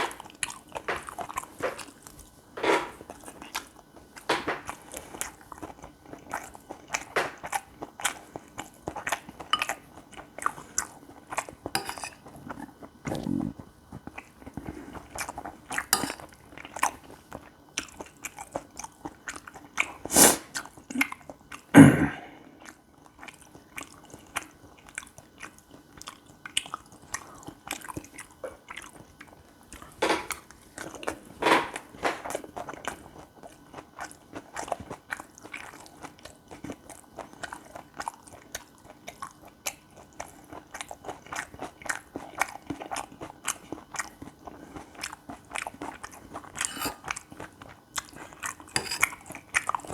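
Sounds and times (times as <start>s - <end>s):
close-up chewing: 0.0s - 21.7s, 22.4s - 49.9s.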